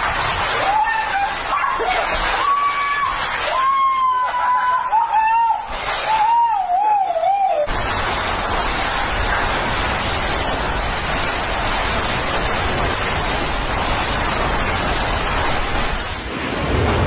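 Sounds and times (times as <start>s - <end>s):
hurricane wind and driving rain: 0.0s - 6.4s, 7.7s - 17.0s.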